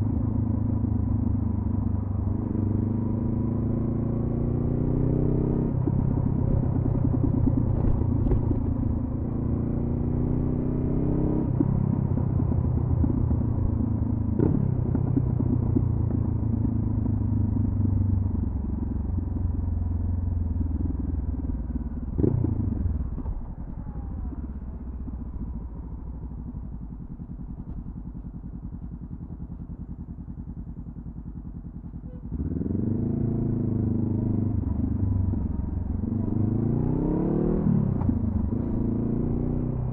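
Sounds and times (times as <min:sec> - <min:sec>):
motorcycle engine revving: 0:01.0 - 0:39.9.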